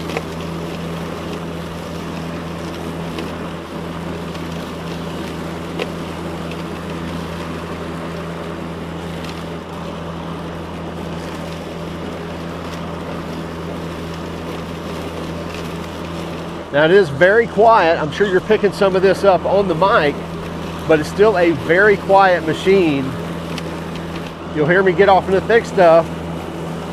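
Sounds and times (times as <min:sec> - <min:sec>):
lawn mower humming: 0:00.0 - 0:26.9.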